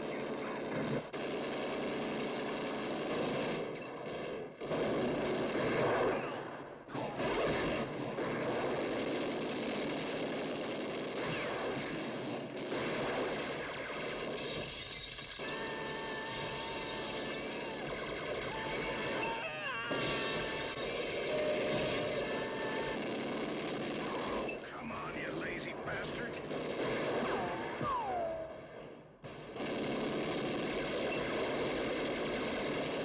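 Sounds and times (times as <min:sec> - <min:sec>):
machine gun rapid fire: 0:00.0 - 0:06.4, 0:07.2 - 0:24.6, 0:26.4 - 0:28.3, 0:29.4 - 0:33.0
gunshots: 0:00.0 - 0:33.0.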